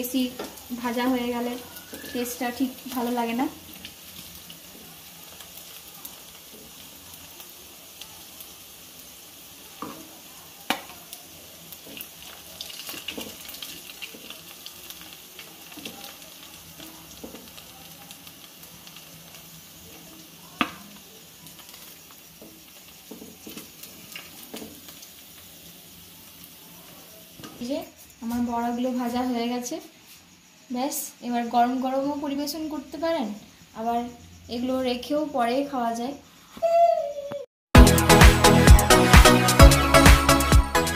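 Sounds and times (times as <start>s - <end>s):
food sizzling in hot oil: 0.0s - 36.5s.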